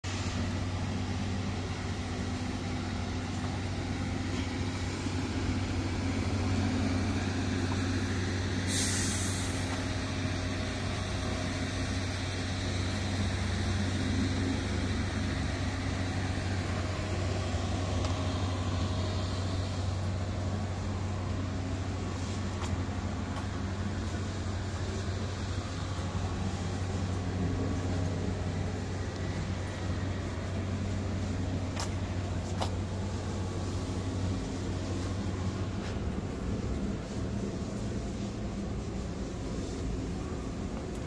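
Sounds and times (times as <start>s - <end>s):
diesel truck engine idling: 0.0s - 41.0s
air hiss: 0.1s - 40.8s.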